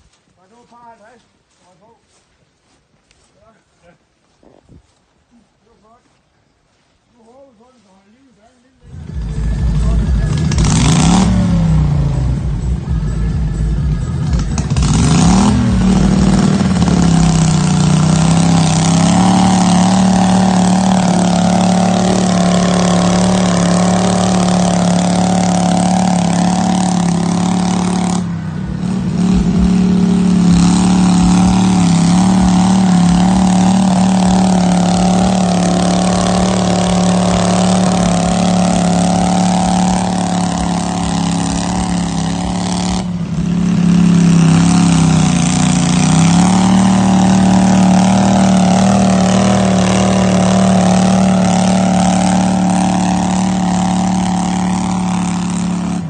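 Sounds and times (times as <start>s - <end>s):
tractor engine revving: 8.1s - 56.0s.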